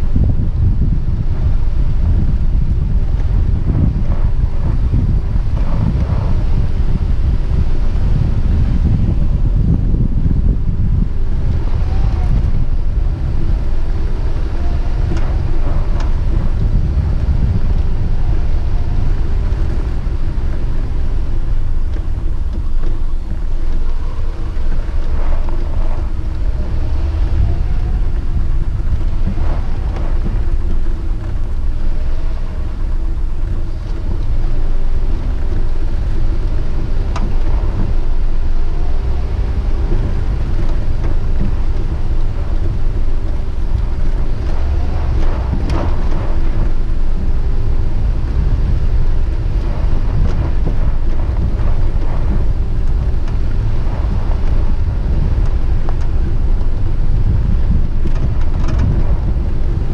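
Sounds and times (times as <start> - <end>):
low rumble with hum: 0.0 - 59.9.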